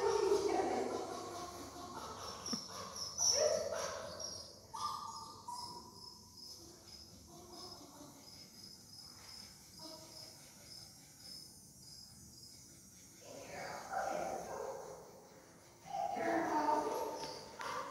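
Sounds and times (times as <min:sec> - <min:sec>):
high-pitched insect chirping: 0:00.0 - 0:17.9.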